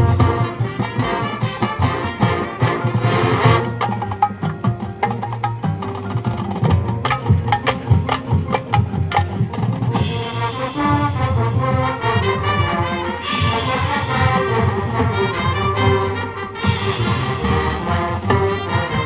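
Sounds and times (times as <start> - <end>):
brass chords: 0.0 - 6.0, 6.8 - 19.0
drumline rapid strokes: 0.0 - 19.0
marching band playing: 0.0 - 19.0.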